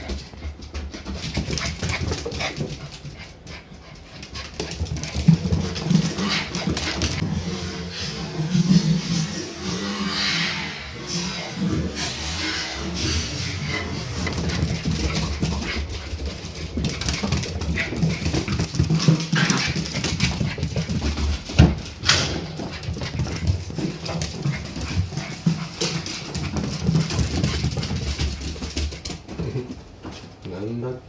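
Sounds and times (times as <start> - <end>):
puppies scuffling on floor: 0.0 - 7.6, 13.0 - 30.7
puppy vocal noises: 1.3 - 29.2.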